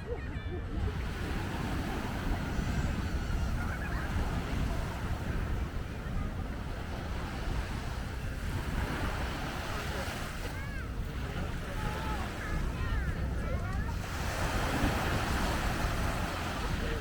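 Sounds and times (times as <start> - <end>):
wind rumbling on microphone: 0.0 - 17.0
surf washing onto beach: 0.8 - 17.0.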